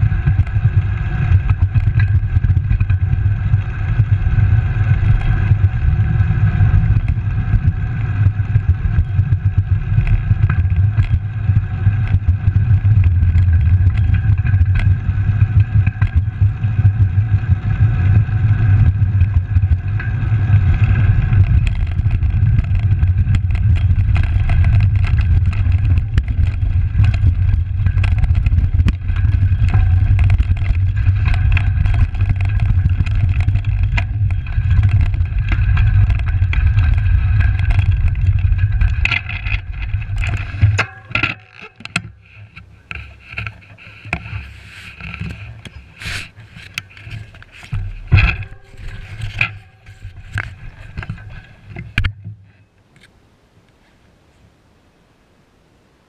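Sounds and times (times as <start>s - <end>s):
bicycle tyre noise: 0.0s - 52.7s
bike and mount rattling: 0.0s - 53.1s
wind rumbling on microphone: 0.0s - 56.0s.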